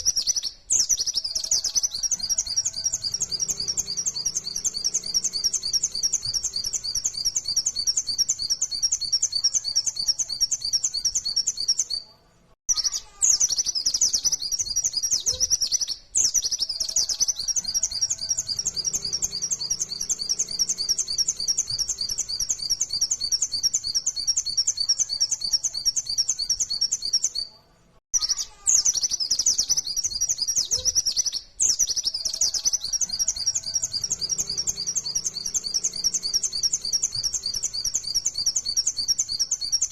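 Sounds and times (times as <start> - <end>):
bird singing high chirping notes: 0.0 - 12.1, 12.7 - 39.9.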